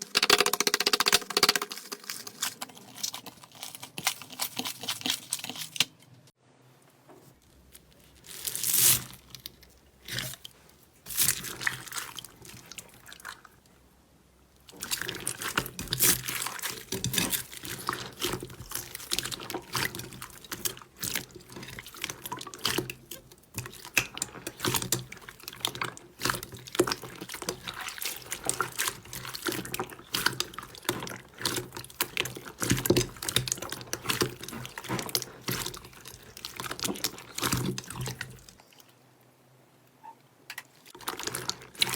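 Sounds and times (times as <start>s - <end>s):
slime squelching by hand: 0.0s - 6.0s, 7.4s - 13.8s, 14.5s - 39.0s, 40.6s - 41.9s.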